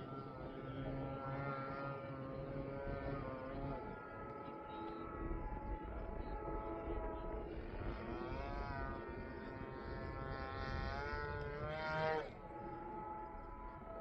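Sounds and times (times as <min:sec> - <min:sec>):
model airplane motor and propeller: 0:00.0 - 0:14.0.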